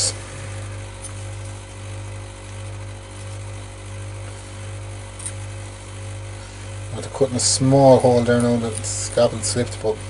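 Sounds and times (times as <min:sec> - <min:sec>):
low buzzing hum: 0:00.0 - 0:10.0.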